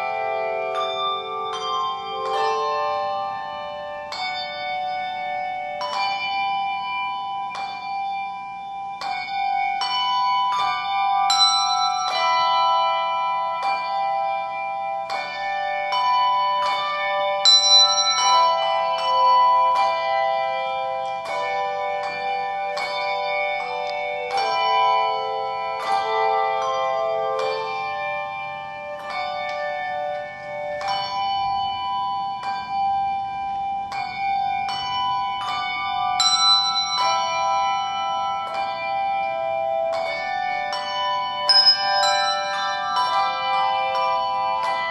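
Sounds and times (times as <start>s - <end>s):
handbell choir ringing: 0.0s - 44.9s.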